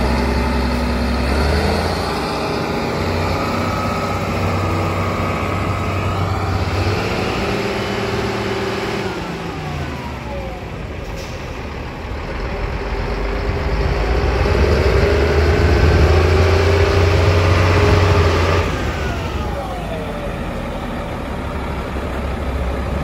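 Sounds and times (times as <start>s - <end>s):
dump truck diesel engine passing: 0.0s - 23.0s.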